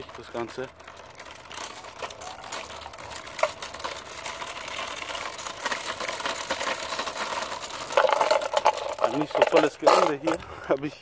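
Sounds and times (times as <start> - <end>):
scooter wheels rattling on asphalt: 0.0 - 11.0.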